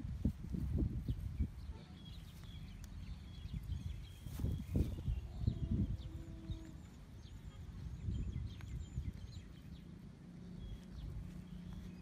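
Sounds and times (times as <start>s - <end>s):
low microphone rumble: 0.0s - 12.0s
small birds chirping: 0.0s - 12.0s.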